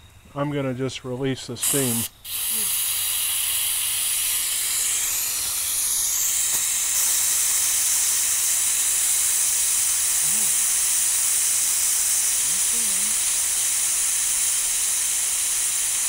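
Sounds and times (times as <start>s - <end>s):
steam hissing from pressure cooker: 1.6s - 16.0s.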